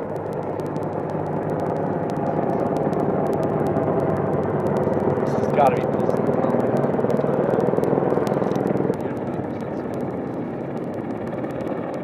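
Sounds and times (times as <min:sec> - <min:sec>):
helicopter rotor and turbine drone: 0:00.0 - 0:12.0.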